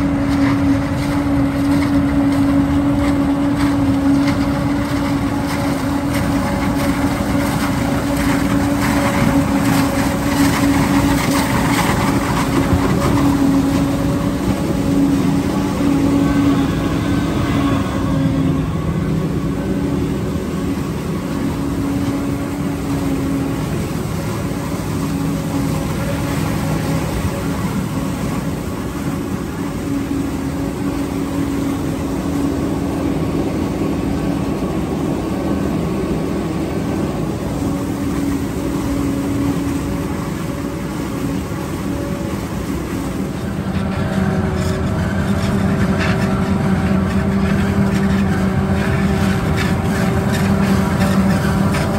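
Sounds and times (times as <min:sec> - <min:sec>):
forage harvester engine drone: 0:00.0 - 0:51.9.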